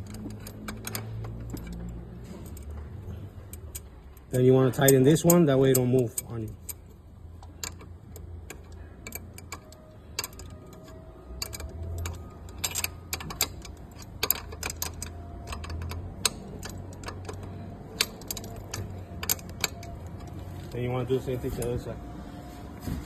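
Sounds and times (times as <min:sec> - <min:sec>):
wrench metallic clicks: 0:00.0 - 0:20.4.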